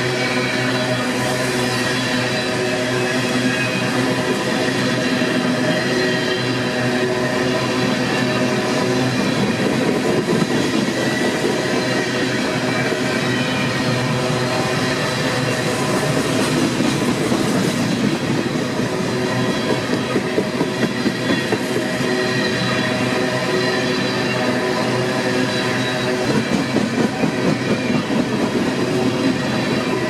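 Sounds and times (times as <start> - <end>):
freight train rail noise: 0.0 - 30.0.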